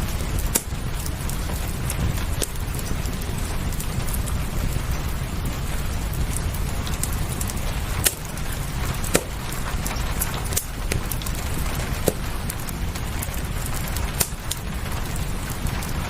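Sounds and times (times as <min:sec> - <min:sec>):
fireplace crackling and popping: 0:00.0 - 0:16.0
rain: 0:00.0 - 0:16.0.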